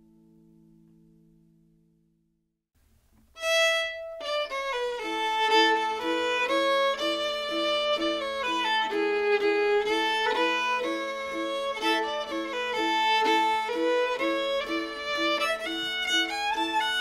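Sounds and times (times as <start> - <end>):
fiddles playing: 3.4 - 17.0
mandolin: 3.4 - 17.0.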